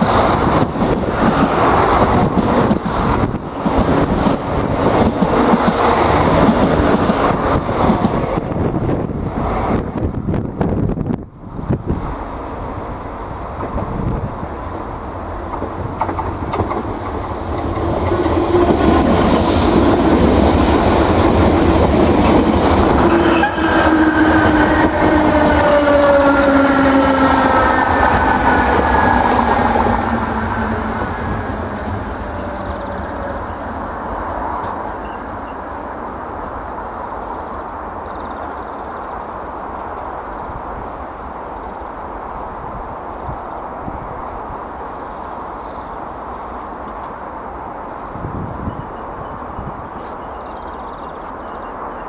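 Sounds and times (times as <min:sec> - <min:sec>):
train rumble and wheel clatter: 0:00.0 - 0:52.0.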